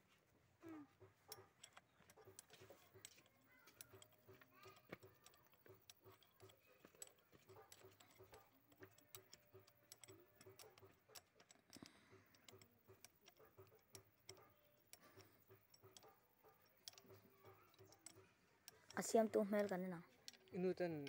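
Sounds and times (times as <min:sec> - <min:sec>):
light metallic clicks and taps: 0:00.8 - 0:21.0.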